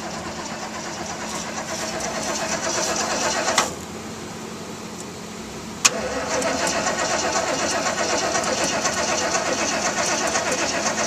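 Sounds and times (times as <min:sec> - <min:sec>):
starter cranking engine: 0:00.0 - 0:03.8, 0:05.8 - 0:11.0.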